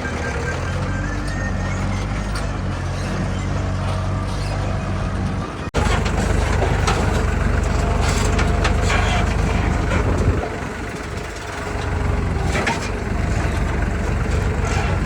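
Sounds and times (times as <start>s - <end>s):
backhoe diesel engine under load: 0.0s - 15.0s.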